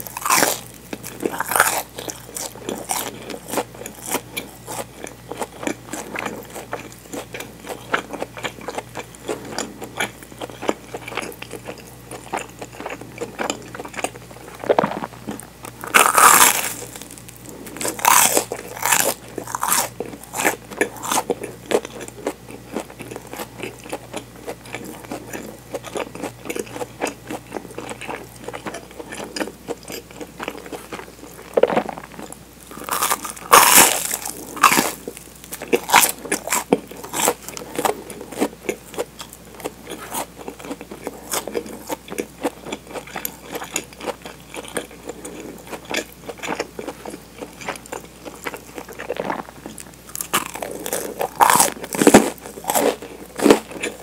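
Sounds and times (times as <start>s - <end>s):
crunching toasted bread: 0.0s - 54.0s
small crackles of chewing: 0.0s - 54.0s.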